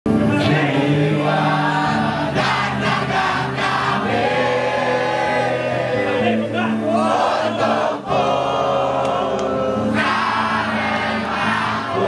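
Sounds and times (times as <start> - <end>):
crowd singing along: 0.1 - 12.0.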